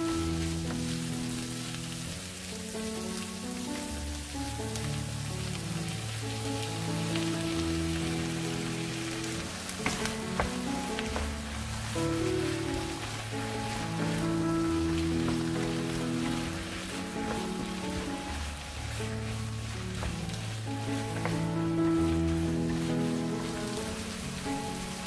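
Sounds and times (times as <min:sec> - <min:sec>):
background music: 0:00.0 - 0:25.0
onions sizzling in frying pan: 0:00.0 - 0:25.0.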